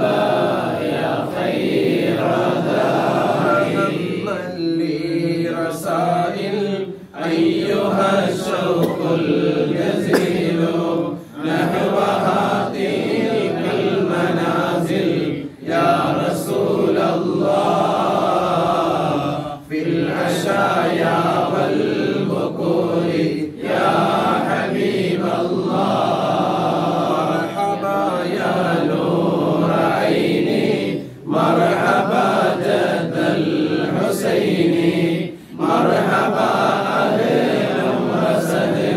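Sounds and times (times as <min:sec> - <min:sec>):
group of men chanting: 0:00.0 - 0:38.9.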